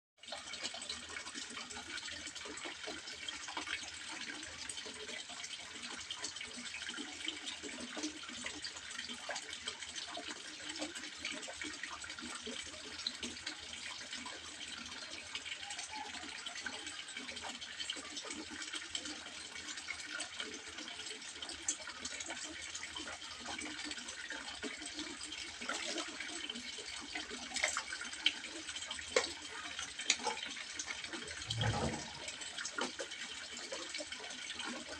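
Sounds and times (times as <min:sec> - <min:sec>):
water trickling into pond: 0:00.2 - 0:34.9.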